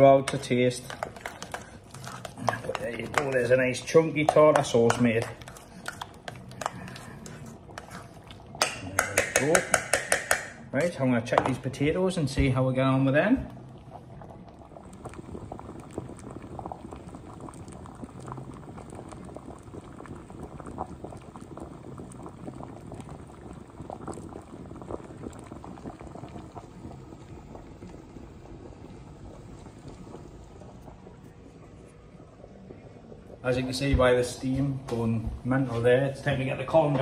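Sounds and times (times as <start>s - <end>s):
water boiling with small pops: 0.0s - 37.0s.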